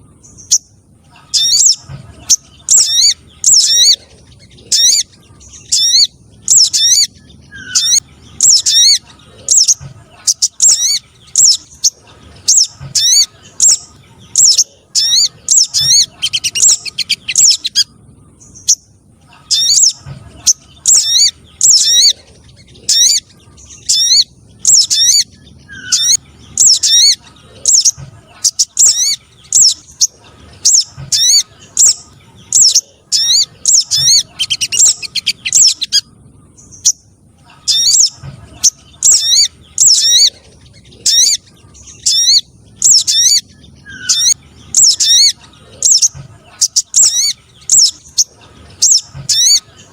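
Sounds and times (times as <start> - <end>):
bird calling with high chirps: 0.0 - 49.9.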